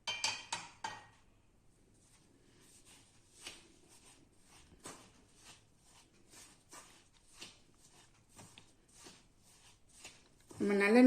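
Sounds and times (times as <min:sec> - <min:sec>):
faint scrapes and rustles of mixing: 0:01.7 - 0:11.0.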